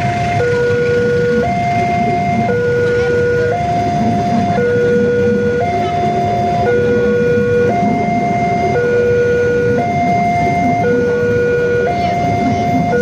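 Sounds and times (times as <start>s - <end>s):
level crossing two-tone alarm: 0.0s - 13.0s
train coaches rumbling past: 0.0s - 13.0s.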